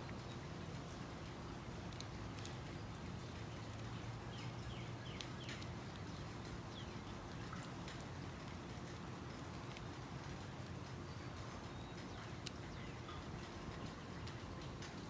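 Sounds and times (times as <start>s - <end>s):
light clicks of weaving material: 0.0s - 15.0s.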